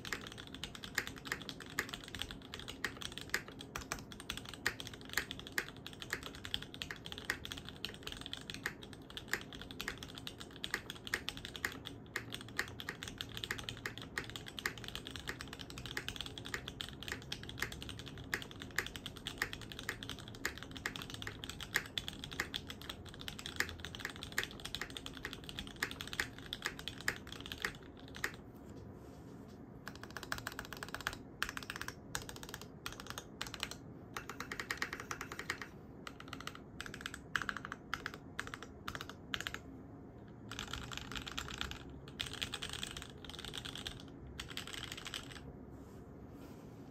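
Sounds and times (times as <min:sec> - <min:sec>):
mechanical keyboard typing: 0:00.0 - 0:28.4, 0:29.8 - 0:39.7, 0:40.3 - 0:45.5.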